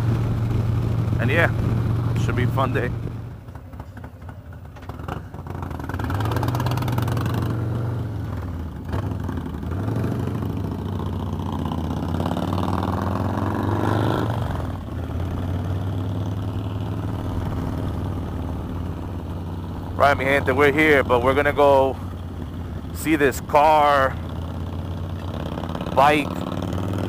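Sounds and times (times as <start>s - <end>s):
motorcycle engine pulling away: 0.0s - 23.0s, 23.7s - 27.0s.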